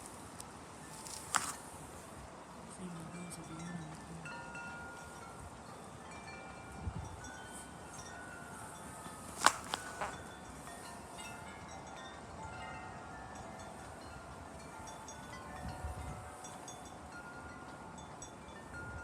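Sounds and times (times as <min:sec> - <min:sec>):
wind chimes ringing: 0:02.8 - 0:19.0.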